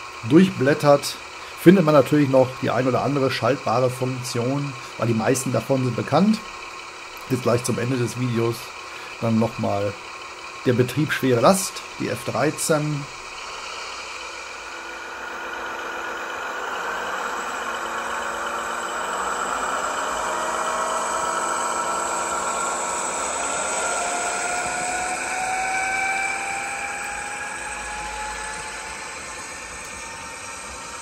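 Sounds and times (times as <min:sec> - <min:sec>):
model locomotive diesel engine whine: 0:00.0 - 0:31.0
wheels rolling on track: 0:00.0 - 0:31.0.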